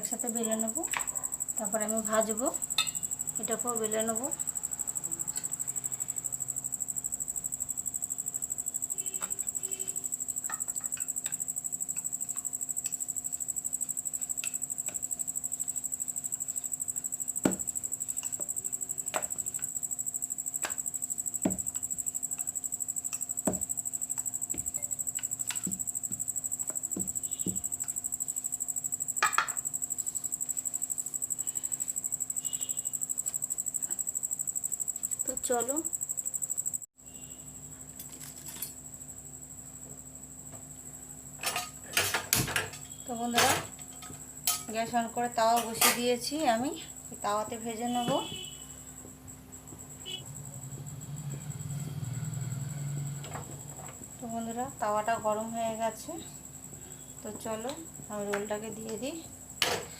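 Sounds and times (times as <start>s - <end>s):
high-pitched chirring hum: 0.0s - 59.9s.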